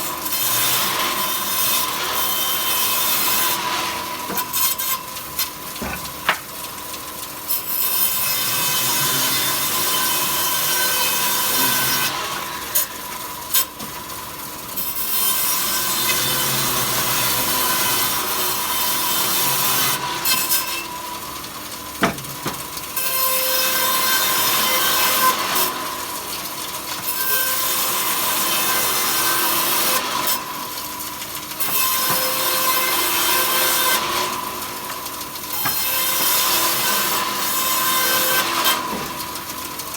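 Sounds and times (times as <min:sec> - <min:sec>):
saw cutting wood: 0:00.0 - 0:06.5, 0:07.5 - 0:14.1, 0:14.8 - 0:20.9, 0:22.0 - 0:26.0, 0:26.9 - 0:30.6, 0:31.6 - 0:39.9.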